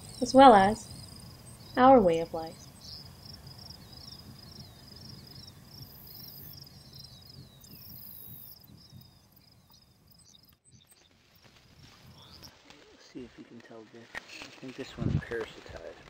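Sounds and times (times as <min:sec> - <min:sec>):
insects trilling: 0:00.0 - 0:14.8.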